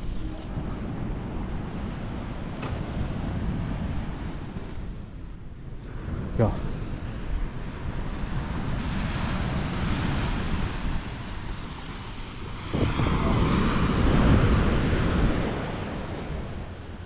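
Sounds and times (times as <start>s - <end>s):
waves breaking on sandy shore: 0.0s - 17.0s
wind rumbling on microphone: 0.0s - 17.0s.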